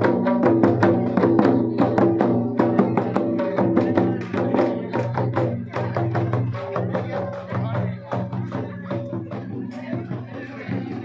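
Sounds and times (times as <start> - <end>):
crowd voices: 0.0 - 11.0
hand drums beating dance rhythm: 0.0 - 11.0.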